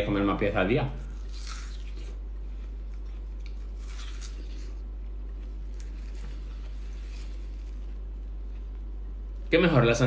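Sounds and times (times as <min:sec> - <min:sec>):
steady low hum: 0:00.0 - 0:10.0
watermelon being chewed: 0:00.9 - 0:09.4.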